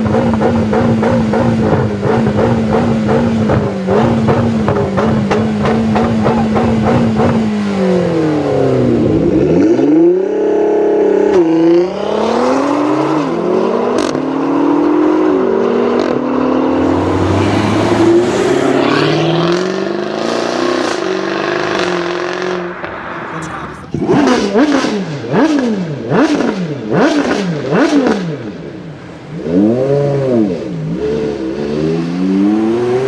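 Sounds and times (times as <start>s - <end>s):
sports car engine accelerating: 0.0s - 33.0s.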